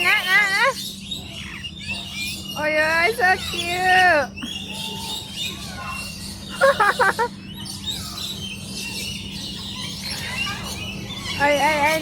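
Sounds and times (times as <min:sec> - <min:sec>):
birds chirping and twittering: 0:00.0 - 0:12.0
loud wavering bird calls: 0:00.0 - 0:12.0.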